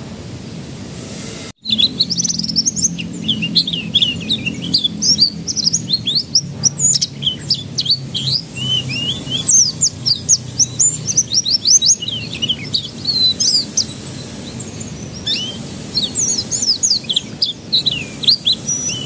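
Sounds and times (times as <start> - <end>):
canary singing: 1.6 - 19.0.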